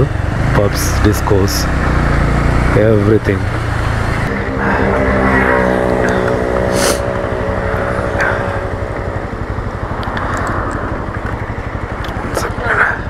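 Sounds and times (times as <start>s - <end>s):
motorcycle engine running: 0.0s - 13.0s
road noise: 0.0s - 13.0s
wind: 0.0s - 13.0s.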